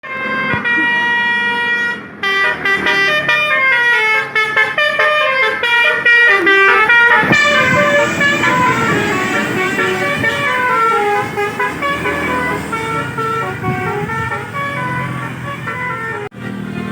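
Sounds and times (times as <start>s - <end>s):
musical air horn playing tune: 0.1s - 16.3s.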